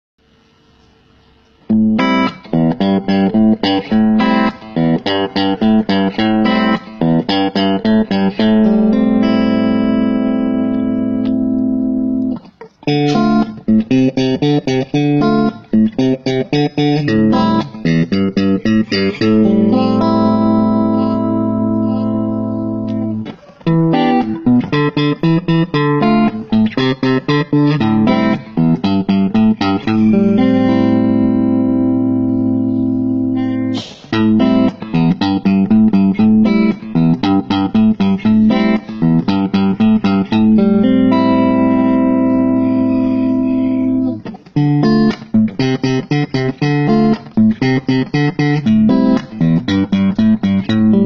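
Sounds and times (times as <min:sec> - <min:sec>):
clean electric guitar melody: 0:00.4 - 0:51.0.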